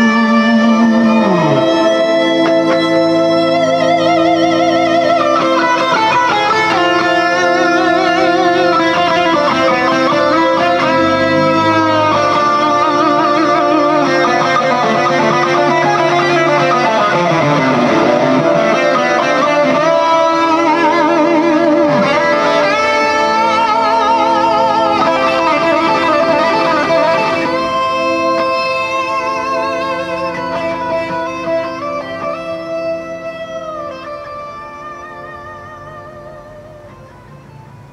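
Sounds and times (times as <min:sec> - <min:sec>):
guitar with vibrato: 0:00.0 - 0:37.9
sustained chords: 0:00.0 - 0:37.9.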